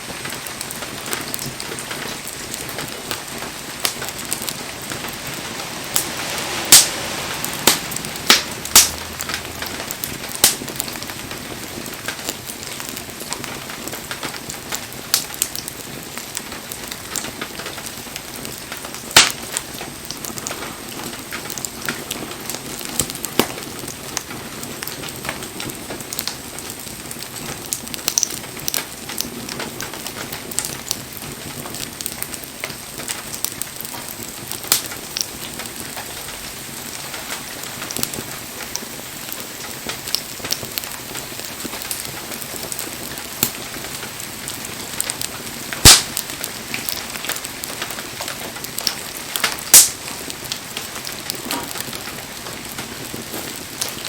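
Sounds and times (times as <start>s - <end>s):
bonfire crackling and hissing: 0.0s - 54.0s
burning logs popping: 0.0s - 54.0s.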